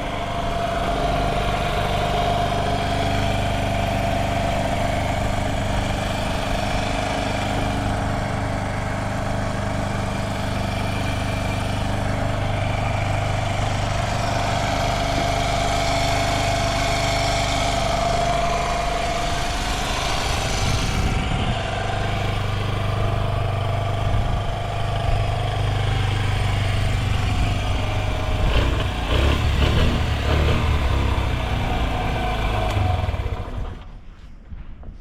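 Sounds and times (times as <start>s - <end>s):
small engine idling: 0.0s - 34.2s.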